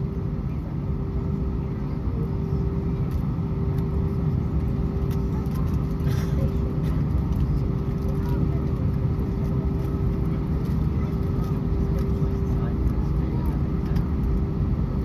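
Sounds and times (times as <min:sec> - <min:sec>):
airplane cabin rumble: 0:00.0 - 0:15.0
constant hum: 0:00.0 - 0:15.0.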